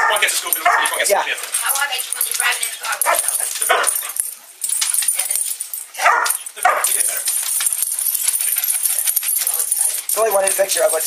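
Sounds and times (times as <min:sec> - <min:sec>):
dogs barking and whining: 0:00.0 - 0:10.6.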